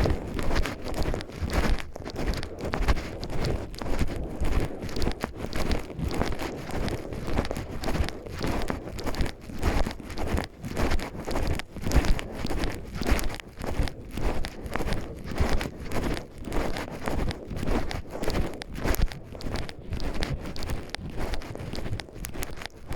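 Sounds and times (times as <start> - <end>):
crunching footsteps: 0.0 - 22.9.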